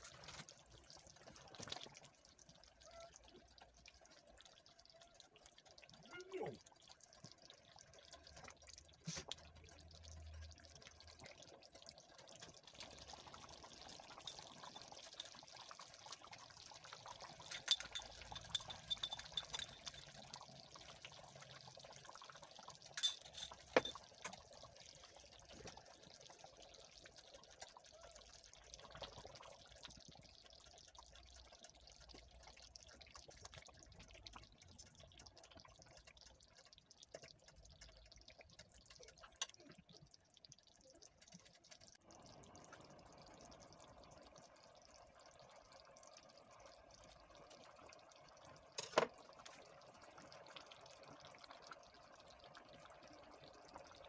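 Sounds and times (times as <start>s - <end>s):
stew sloshing and bubbling: 0.0s - 54.0s.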